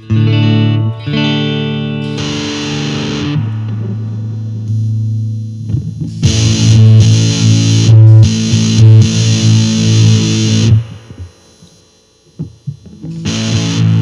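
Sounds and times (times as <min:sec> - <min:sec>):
distorted electric guitar chords: 0:00.0 - 0:14.0.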